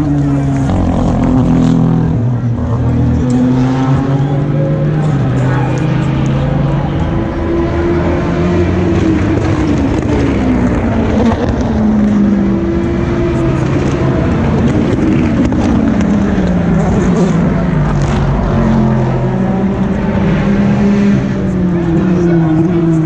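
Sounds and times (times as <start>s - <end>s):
race car engines shifting gears: 0.0s - 23.0s.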